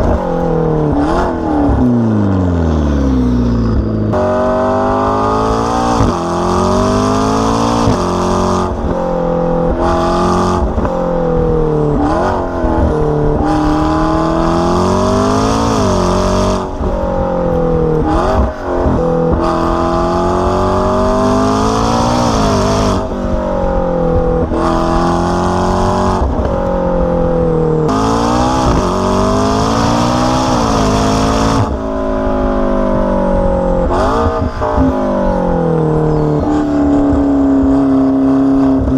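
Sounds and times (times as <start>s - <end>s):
sports car engine accelerating: 0.0s - 38.9s.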